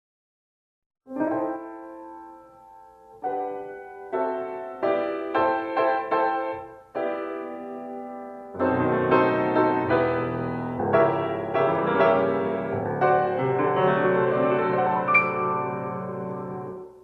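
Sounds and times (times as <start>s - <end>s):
piano chords: 1.1s - 17.0s.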